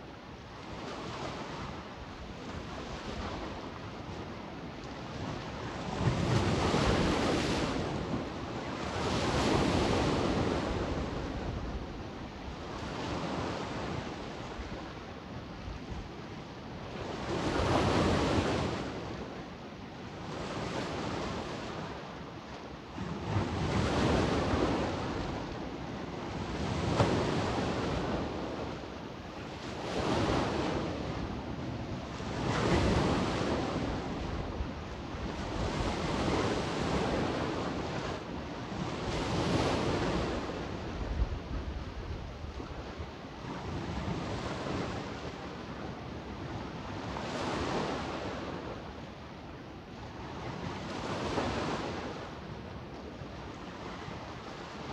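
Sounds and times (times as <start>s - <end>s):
sea waves breaking on shore: 0.0s - 54.9s.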